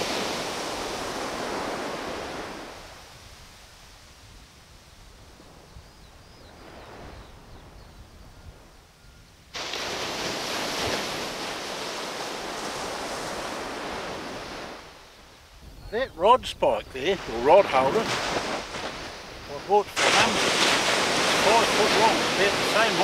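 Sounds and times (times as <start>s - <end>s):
surf washing on beach: 0.0s - 23.0s
wind on microphone: 0.0s - 23.0s.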